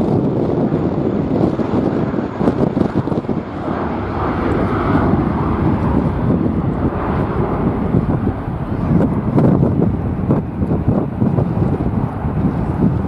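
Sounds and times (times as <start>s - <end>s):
jet airliner passing: 0.0s - 13.0s
wind buffeting microphone: 0.0s - 13.0s.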